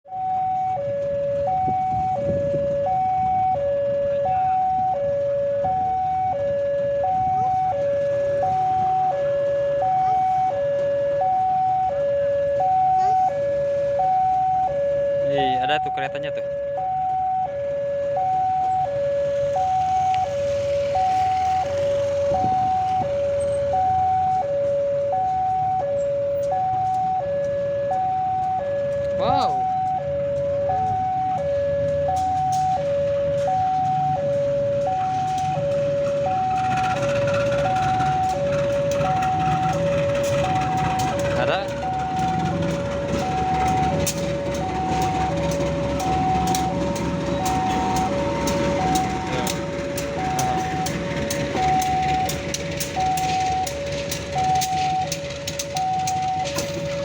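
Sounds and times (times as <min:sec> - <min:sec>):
low traffic rumble: 0:00.0 - 0:57.0
two-tone crossing alarm: 0:00.1 - 0:57.0.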